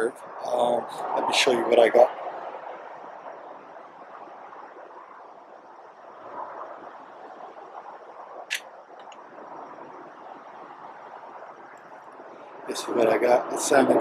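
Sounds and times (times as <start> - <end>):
highway traffic: 0.0 - 14.0.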